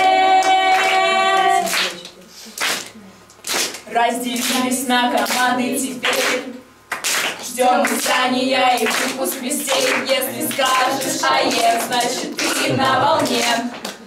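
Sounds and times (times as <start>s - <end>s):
teenagers singing together: 0.0s - 2.0s, 3.8s - 14.0s
hands clapping: 0.4s - 4.6s, 5.2s - 8.2s, 8.8s - 14.0s.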